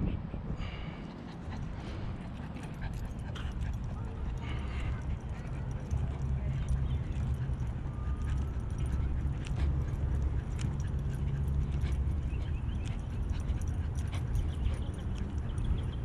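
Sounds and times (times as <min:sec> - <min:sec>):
wind rumble on microphone: 0:00.0 - 0:16.0
light jingling clicks: 0:01.8 - 0:16.0.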